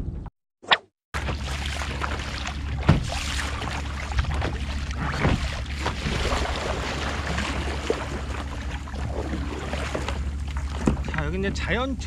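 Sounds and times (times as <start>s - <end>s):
low rumble: 1.2s - 12.0s
water lapping around kayak: 1.2s - 12.0s.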